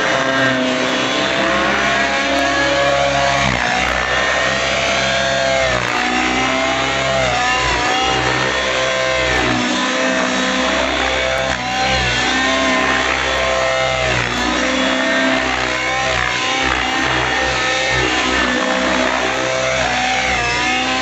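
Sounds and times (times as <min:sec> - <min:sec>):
rc helicopter engine and rotor: 0:00.0 - 0:21.0.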